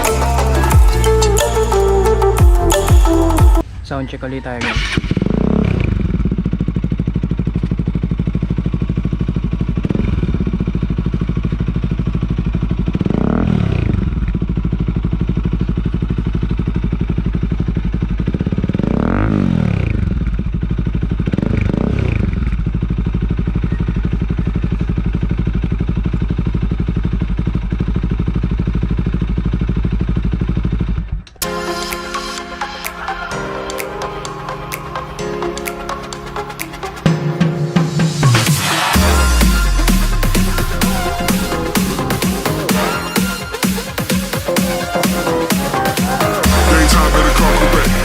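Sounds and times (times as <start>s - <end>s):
motorcycle engine idling and revving: 0.0s - 31.4s, 37.9s - 48.0s.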